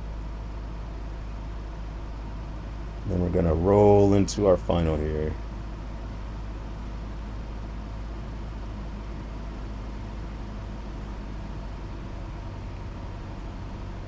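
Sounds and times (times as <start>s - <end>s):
airplane engine droning in cabin: 0.0s - 14.0s.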